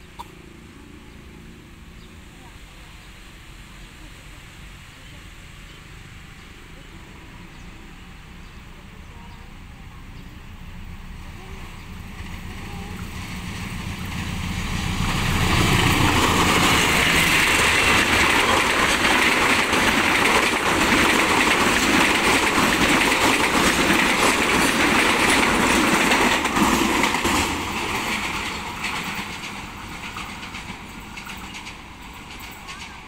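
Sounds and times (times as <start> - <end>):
locomotive engine rumble: 0.0 - 33.0
train wheels rushing on rails: 5.5 - 33.0.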